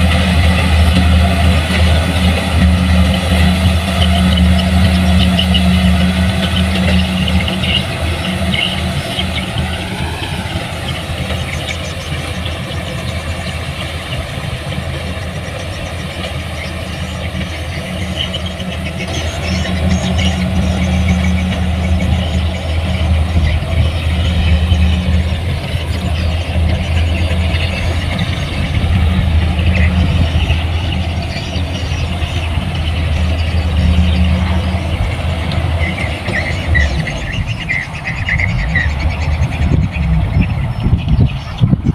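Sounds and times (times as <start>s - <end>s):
heavy machine engine humming: 0.0s - 41.9s.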